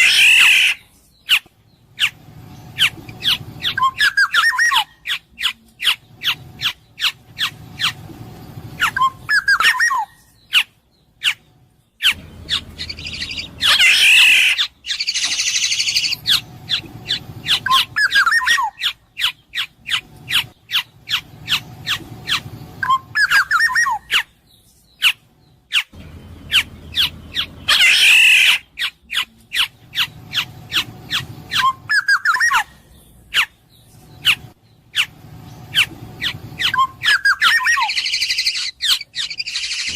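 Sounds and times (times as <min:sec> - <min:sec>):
oriole fluty whistled calls: 0:00.0 - 0:01.4, 0:02.0 - 0:08.0, 0:08.6 - 0:11.4, 0:12.0 - 0:24.3, 0:24.9 - 0:39.9
harsh nasal bird calls: 0:00.0 - 0:39.9.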